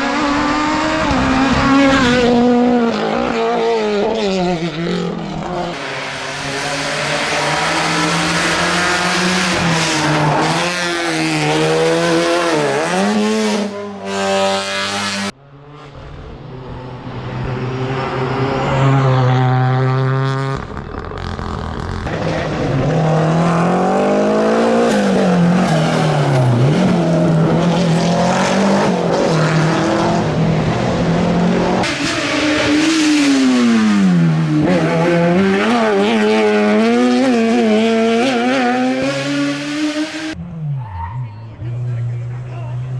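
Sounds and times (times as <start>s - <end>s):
race car engines accelerating: 0.0s - 42.9s.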